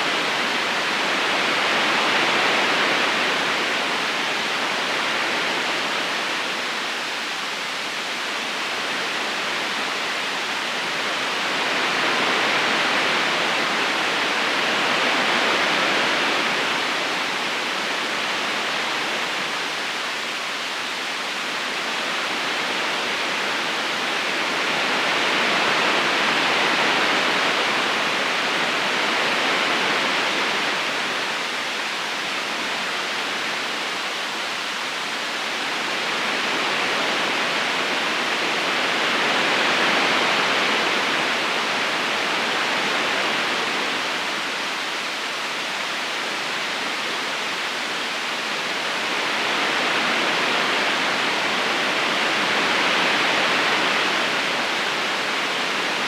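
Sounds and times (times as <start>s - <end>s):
river flowing over stones: 0.1s - 56.0s.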